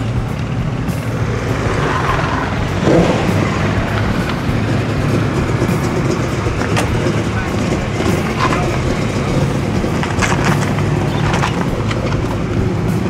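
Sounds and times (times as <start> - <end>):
background music: 0.0 - 13.0
vehicle engine running: 0.0 - 13.0.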